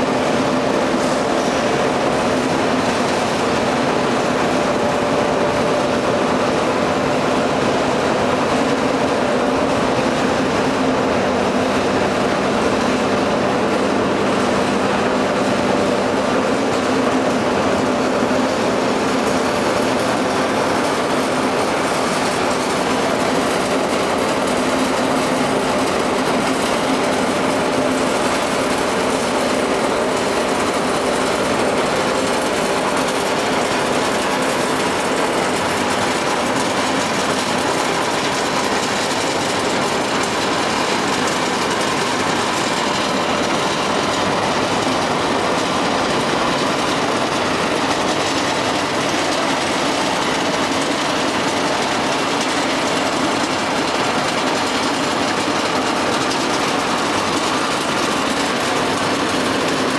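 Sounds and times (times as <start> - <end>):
pellet mill machine running: 0.0 - 59.9.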